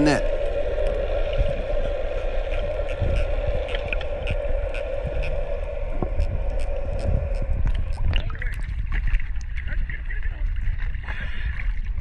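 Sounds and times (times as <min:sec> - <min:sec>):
underwater low rumble: 0:00.0 - 0:12.0.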